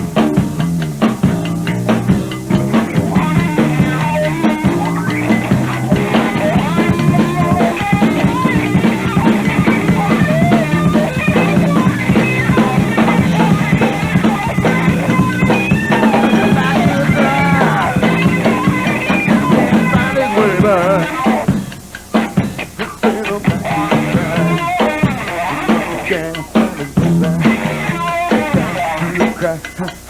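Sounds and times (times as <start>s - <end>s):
steady bass line: 0.0s - 29.9s
drum kit: 0.0s - 30.0s
lead guitar bending notes: 0.0s - 30.0s.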